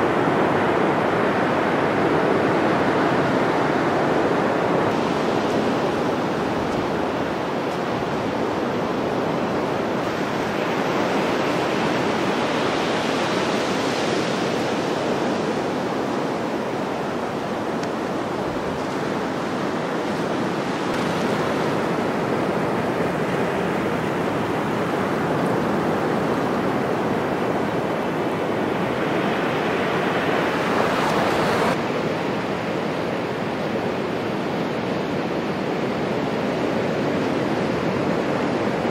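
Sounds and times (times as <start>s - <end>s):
surf breaking on beach: 0.0s - 38.9s.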